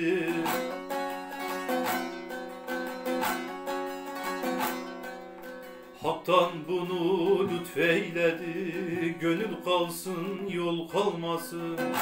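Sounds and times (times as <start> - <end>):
plucked lute folk melody: 0.0 - 12.0.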